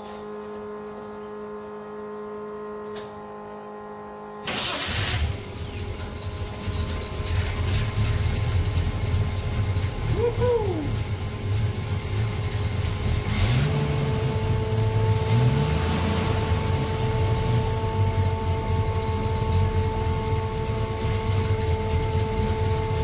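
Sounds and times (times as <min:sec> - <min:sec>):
steady whine: 0:00.0 - 0:23.0
car engine revving and idling: 0:01.8 - 0:23.0.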